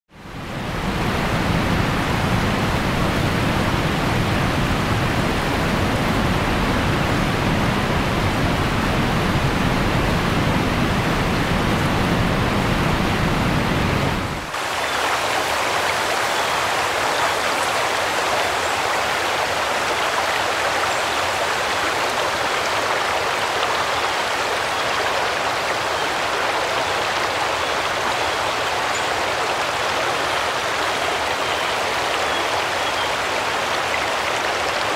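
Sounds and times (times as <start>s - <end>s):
floodwater rushing: 0.2s - 34.9s.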